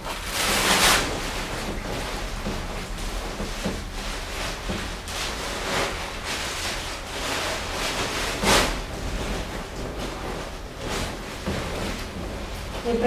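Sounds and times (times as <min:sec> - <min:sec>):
plastic coverall rustling and crinkling: 0:00.0 - 0:13.0.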